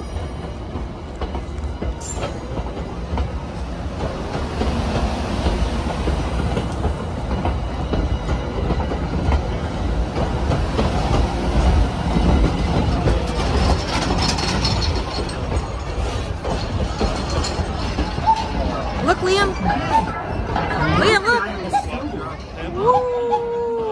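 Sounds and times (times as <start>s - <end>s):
rail joint clicks: 0.0s - 23.9s
train wheels rumbling on track: 0.0s - 23.9s.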